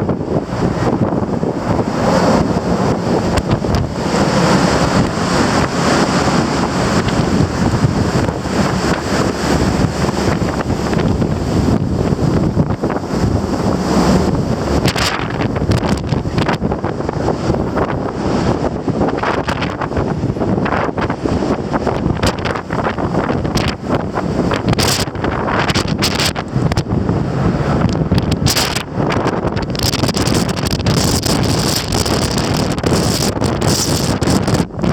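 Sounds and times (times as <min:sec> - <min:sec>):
rush of sea water: 0:00.0 - 0:34.9
wind buffeting microphone: 0:00.0 - 0:34.9.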